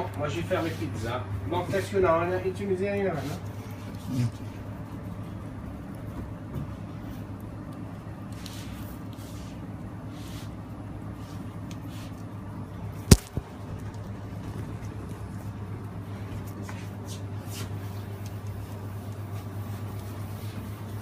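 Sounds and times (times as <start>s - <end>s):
kitchen machinery humming: 0.0s - 21.0s.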